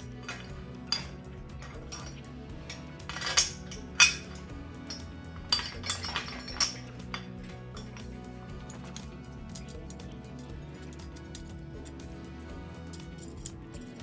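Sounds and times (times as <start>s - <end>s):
background music: 0.0s - 14.0s
metal parts clinking and knocking: 0.0s - 14.0s.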